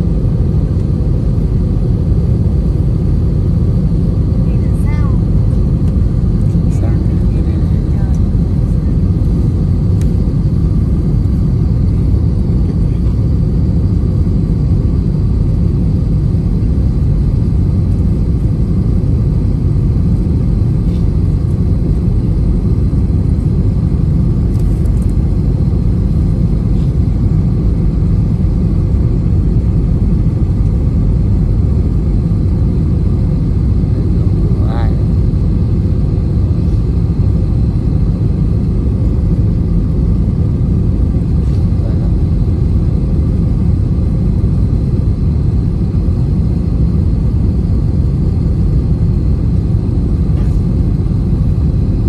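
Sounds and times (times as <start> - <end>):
loud low rumble: 0.0 - 52.0.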